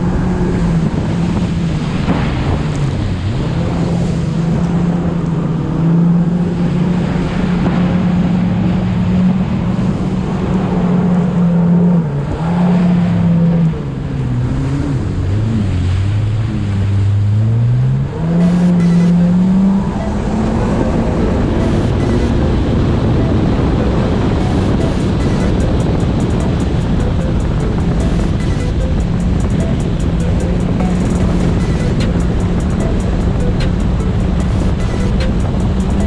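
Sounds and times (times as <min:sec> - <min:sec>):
jet ski engine droning: 0:00.0 - 0:36.0.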